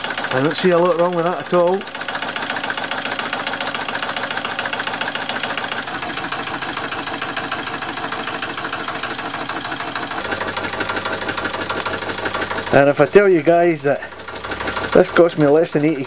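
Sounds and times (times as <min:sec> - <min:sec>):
toy steam engine exhaust beats: 0:00.0 - 0:16.0.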